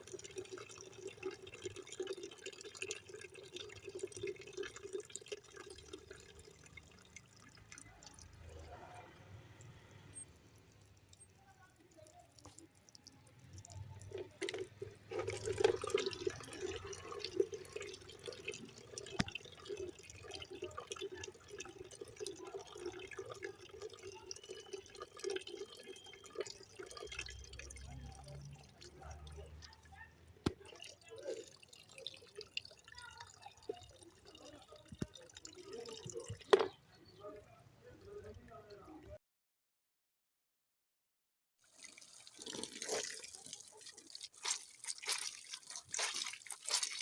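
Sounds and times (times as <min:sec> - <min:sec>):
water trickling and dripping: 0:00.0 - 0:39.1, 0:41.6 - 0:47.0.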